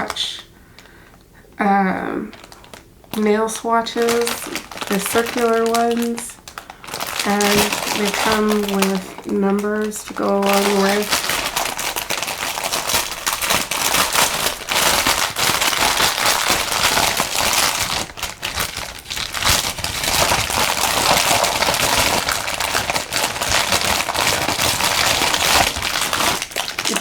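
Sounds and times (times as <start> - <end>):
plastic packaging crinkling: 1.8 - 27.0.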